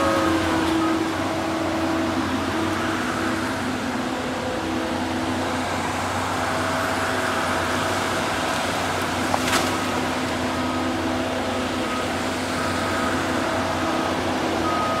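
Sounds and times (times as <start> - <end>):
machine engine and hydraulics: 0.0 - 15.0.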